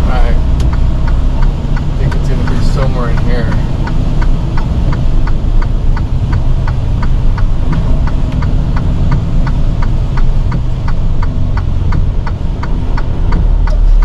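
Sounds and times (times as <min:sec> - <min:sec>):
truck diesel engine running: 0:00.0 - 0:14.0
turn signal clicking: 0:00.0 - 0:14.0.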